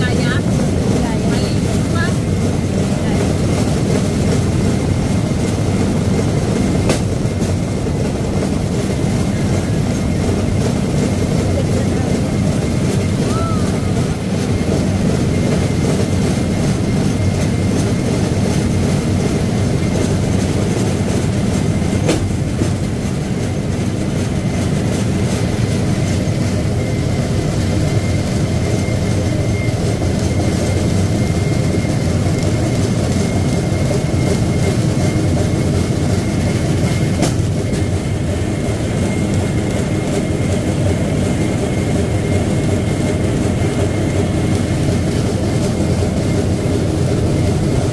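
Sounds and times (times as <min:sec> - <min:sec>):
steel wheels rolling on rails: 0:00.0 - 0:47.9.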